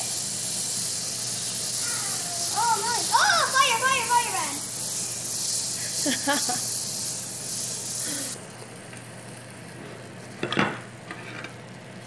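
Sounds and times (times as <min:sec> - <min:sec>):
gas stove burner hissing: 0:00.0 - 0:12.0.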